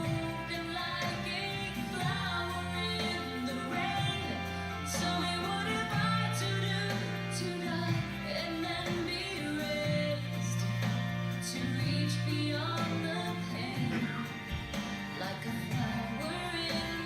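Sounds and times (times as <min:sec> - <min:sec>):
instrumental backing: 0:00.0 - 0:17.0
woman singing pop song: 0:00.0 - 0:17.0.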